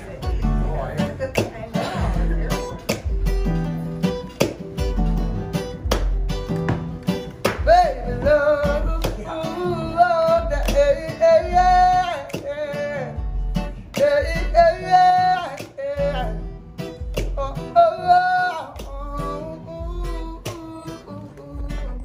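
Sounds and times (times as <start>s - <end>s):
man singing: 0.0s - 3.3s, 7.5s - 22.0s
acoustic guitar strumming: 0.0s - 22.0s.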